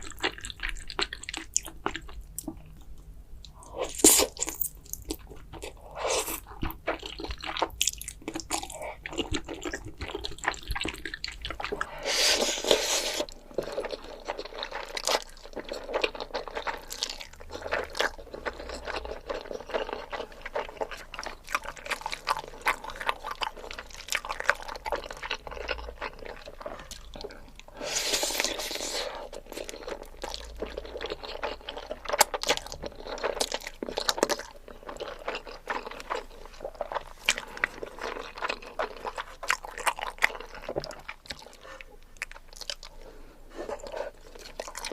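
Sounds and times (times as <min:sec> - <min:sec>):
wet chewing and mouth smacks: 0:00.0 - 0:43.0, 0:43.6 - 0:44.9.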